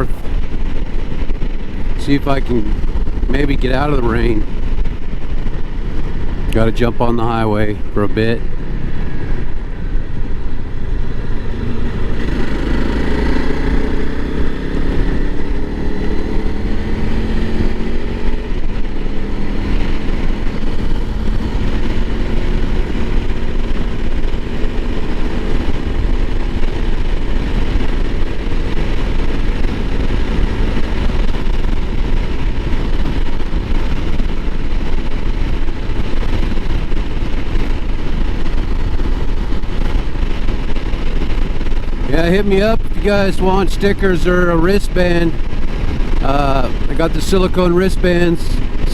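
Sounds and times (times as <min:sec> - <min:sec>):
motorcycle engine accelerating: 0:00.0 - 0:48.9
wind rush on microphone: 0:00.0 - 0:48.9.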